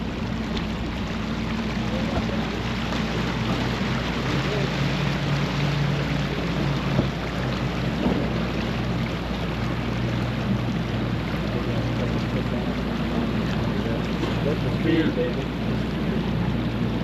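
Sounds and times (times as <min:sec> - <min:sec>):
low steady hum: 0:00.0 - 0:17.0
water rushing past hull: 0:00.0 - 0:17.0.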